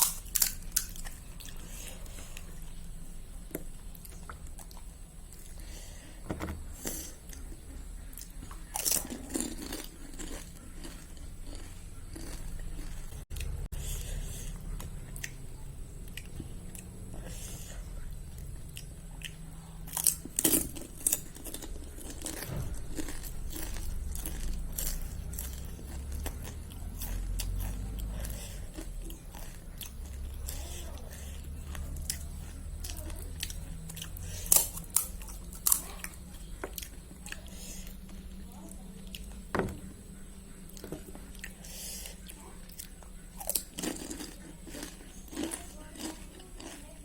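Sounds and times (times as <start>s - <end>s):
chewing: 0.0s - 2.8s, 6.8s - 39.5s, 40.1s - 47.0s.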